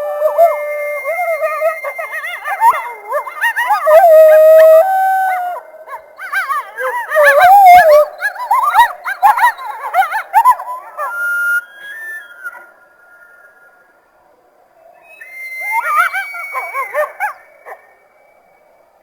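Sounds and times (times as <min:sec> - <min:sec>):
coyotes howling and yipping: 0:00.0 - 0:13.9, 0:14.7 - 0:19.0.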